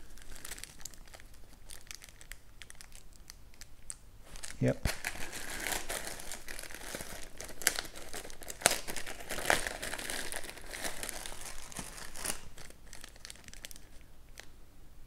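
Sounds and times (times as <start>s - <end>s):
plastic bags crinkling: 0.0s - 3.7s, 4.3s - 14.5s.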